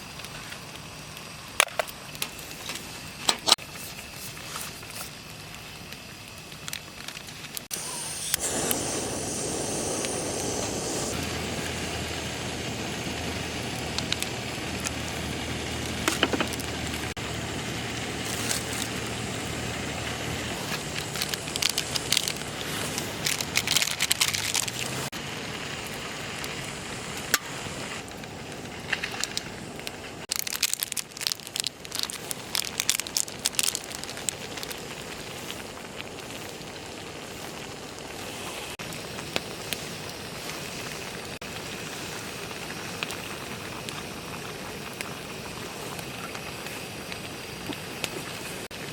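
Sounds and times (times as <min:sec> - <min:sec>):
campfire crackling and popping: 0:04.7 - 0:48.9.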